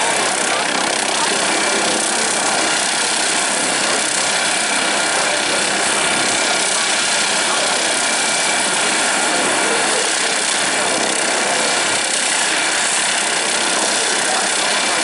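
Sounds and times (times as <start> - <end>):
helicopter turbine whine: 0.0 - 15.0.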